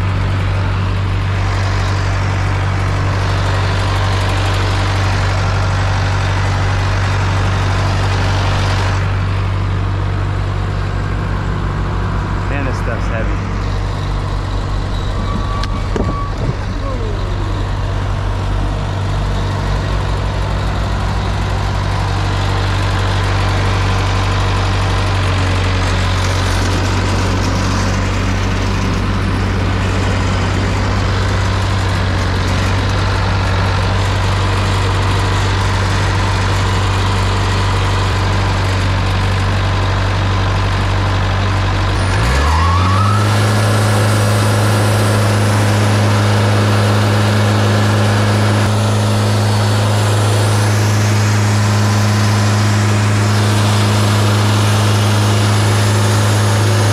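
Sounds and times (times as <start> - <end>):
heavy engine idling: 0.0 - 56.9.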